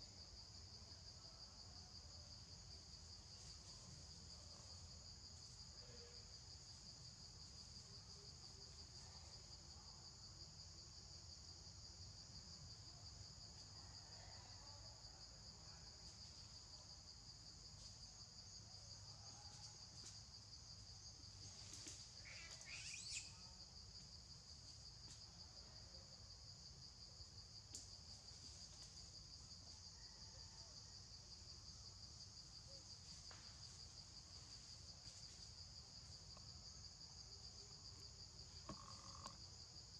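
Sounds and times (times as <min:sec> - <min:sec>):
insects chorus droning: 0:00.0 - 0:39.9.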